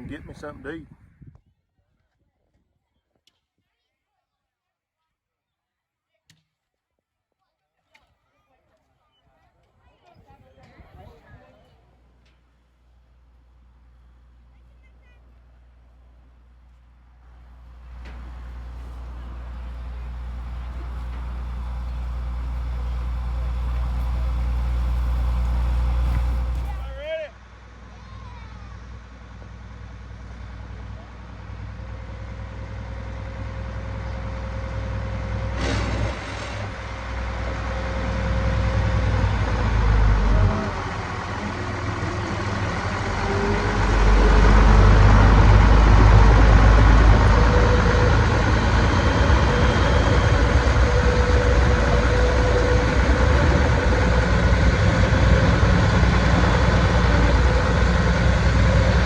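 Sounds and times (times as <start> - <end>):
vehicle engine rumbling: 0.0 - 1.0, 9.6 - 59.0.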